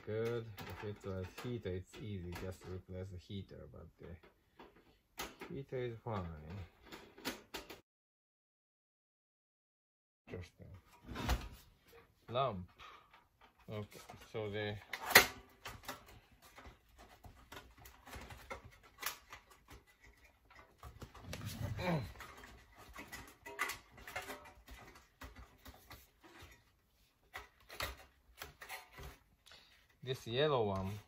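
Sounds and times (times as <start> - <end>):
light clicks and knocks of parts: 0.0 - 7.8, 11.8 - 31.0.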